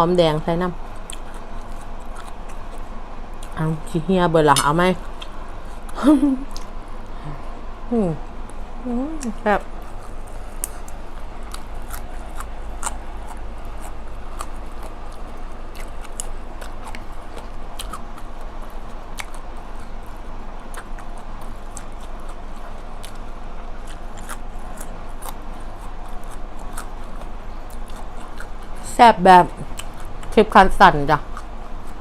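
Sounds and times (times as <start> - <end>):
low hum: 0.0 - 32.0
chewing and mouth clicks: 0.9 - 6.8, 9.2 - 28.9, 29.5 - 32.0.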